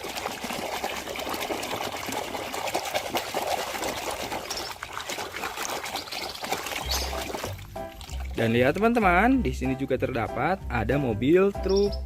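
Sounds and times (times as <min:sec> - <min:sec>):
water pouring and trickling: 0:00.0 - 0:09.9.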